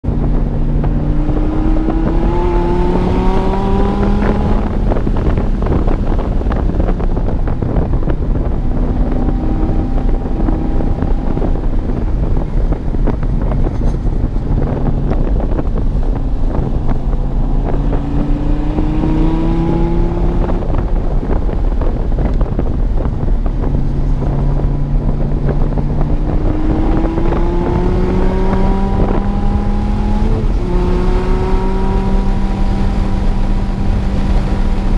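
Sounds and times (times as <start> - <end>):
sports car engine accelerating: 0.0 - 34.9
wind noise on microphone: 0.0 - 34.9.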